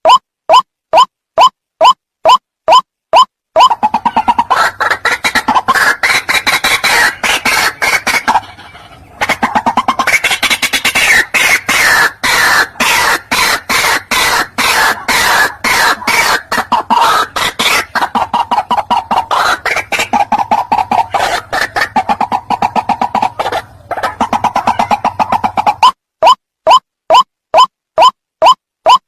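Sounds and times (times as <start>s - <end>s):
bird calling harsh rapid notes: 0.0s - 29.0s.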